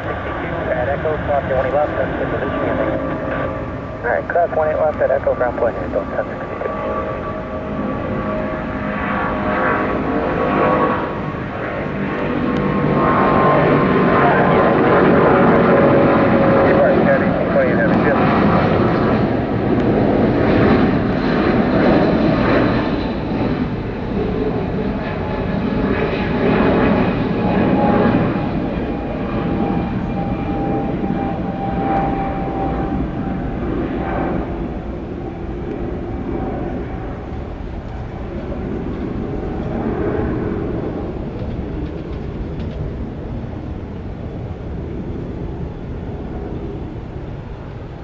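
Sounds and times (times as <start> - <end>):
jet engines rumbling and whining: 0.0 - 48.0.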